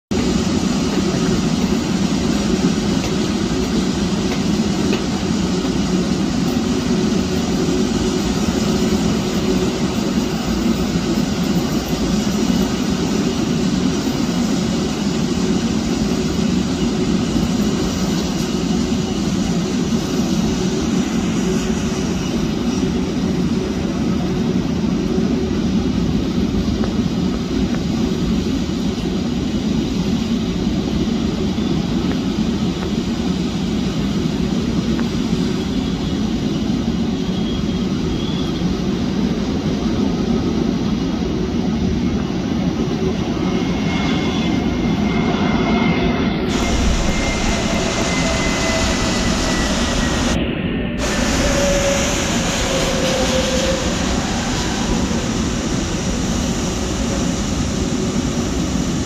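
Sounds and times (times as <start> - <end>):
jet engines roaring: 0.1 - 59.0.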